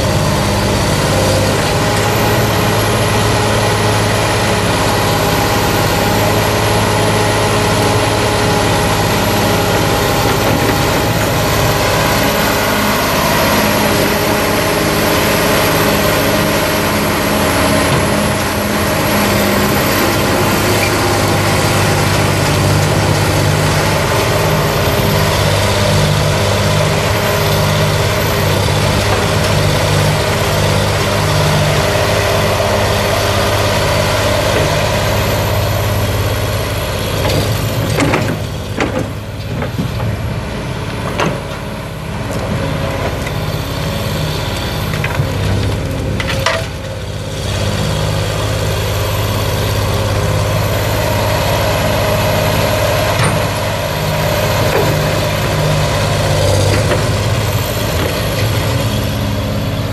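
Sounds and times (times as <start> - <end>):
excavator diesel engine drone: 0.0 - 59.9.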